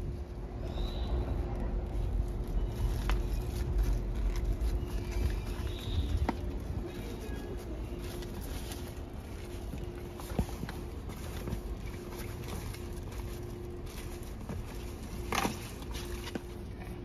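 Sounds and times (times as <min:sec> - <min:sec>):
low background rumble: 0:00.0 - 0:17.0
fabric rustling: 0:01.8 - 0:17.0.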